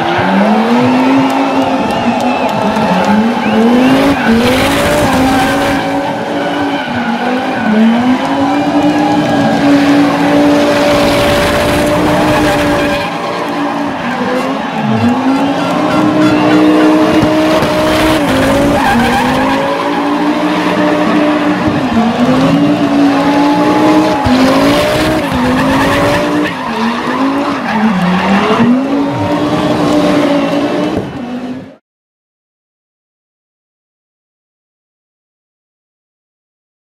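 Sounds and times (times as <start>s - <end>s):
car engine revving high: 0.0s - 31.7s.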